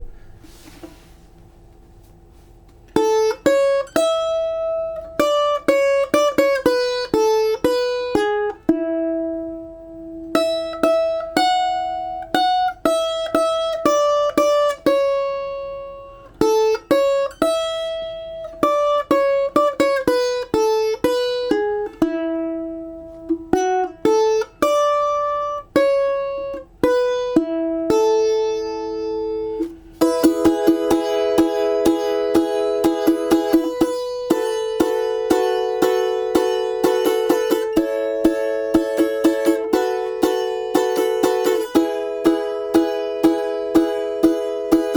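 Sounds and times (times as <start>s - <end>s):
balalaika melody: 2.9s - 9.6s, 10.3s - 44.9s.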